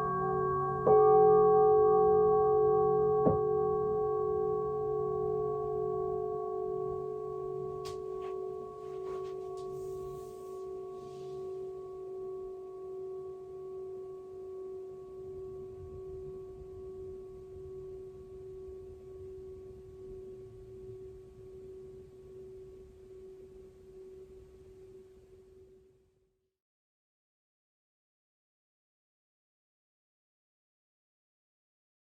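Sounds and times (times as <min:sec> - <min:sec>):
singing bowl ringing: 0:00.0 - 0:26.0.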